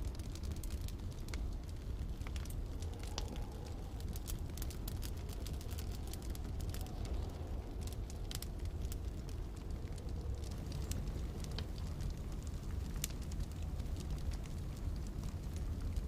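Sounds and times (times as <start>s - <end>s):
low rumble of storm wind: 0.0s - 16.0s
wood fire crackling and popping: 0.0s - 16.0s.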